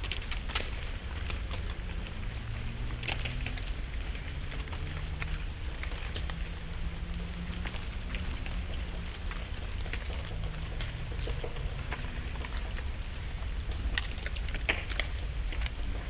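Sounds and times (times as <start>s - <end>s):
leaves pattering on leaf litter: 0.0s - 16.0s
steady low rumble: 0.0s - 16.0s.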